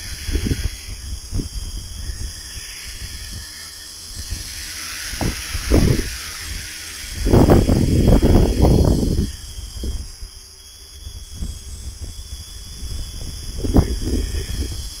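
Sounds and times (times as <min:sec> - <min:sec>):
wind buffeting microphone: 0:00.0 - 0:10.4, 0:11.0 - 0:15.0
steady high hiss: 0:00.0 - 0:15.0.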